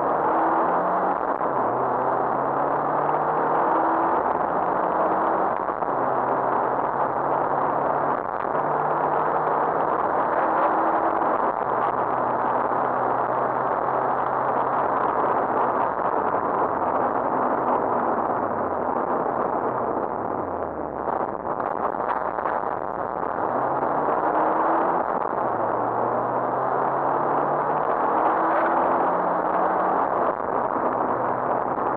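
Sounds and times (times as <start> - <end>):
car engine running hard: 0.0 - 31.9
road and wind noise: 0.0 - 31.9.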